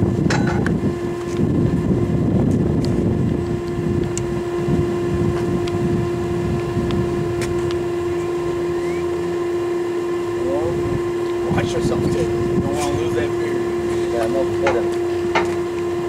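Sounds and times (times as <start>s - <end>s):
electric blower humming: 0.0s - 16.0s.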